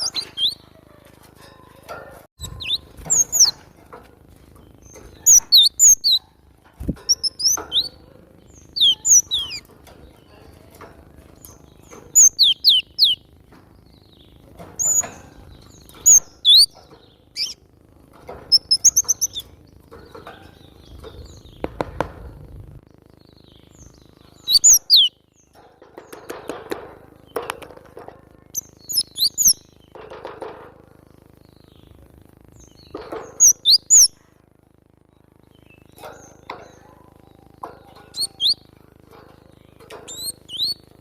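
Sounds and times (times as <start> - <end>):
soft scratchy bird sounds: 0.0 - 41.0.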